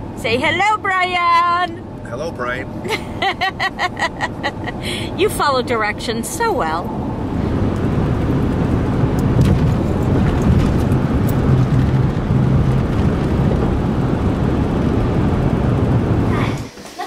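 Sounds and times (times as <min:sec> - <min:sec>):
tyre and wind noise in car: 0:00.0 - 0:16.8.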